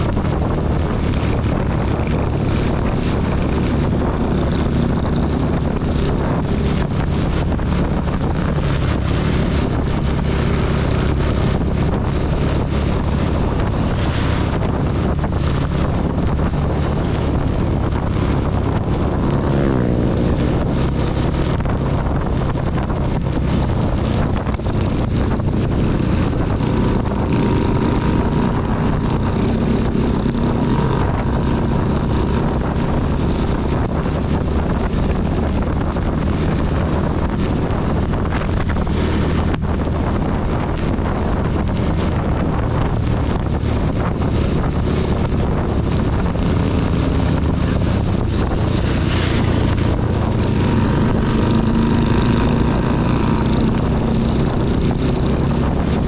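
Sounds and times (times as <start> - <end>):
heavy rain: 0.0 - 56.0
motorcycle engine running: 0.0 - 56.0
wind on microphone: 0.0 - 56.0.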